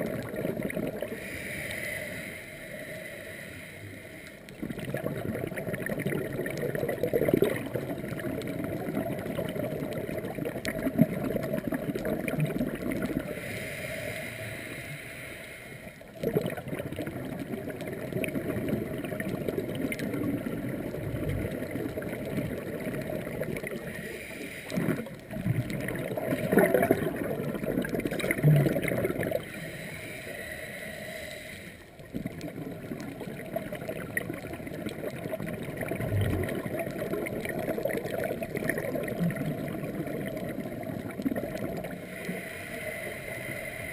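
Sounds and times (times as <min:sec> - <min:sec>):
underwater breathing bubbles: 0:00.0 - 0:43.9
quiet hissing: 0:00.1 - 0:04.8, 0:07.6 - 0:16.2, 0:17.0 - 0:43.9.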